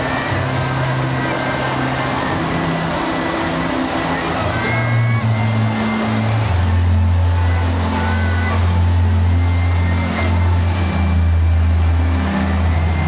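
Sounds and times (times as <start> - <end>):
crowd murmur: 0.0 - 13.0.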